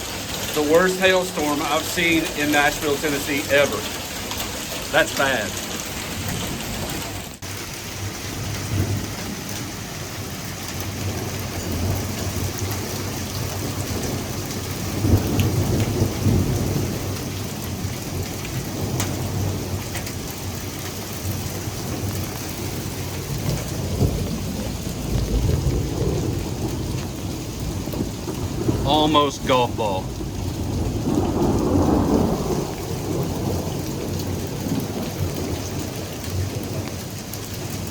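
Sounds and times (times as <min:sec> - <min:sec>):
hail and rain pelting: 0:00.0 - 0:37.9.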